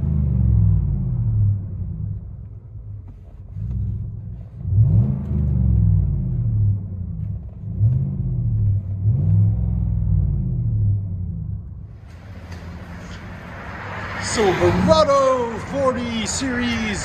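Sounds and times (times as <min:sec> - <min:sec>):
truck exhaust rumble revving: 0:00.0 - 0:17.0.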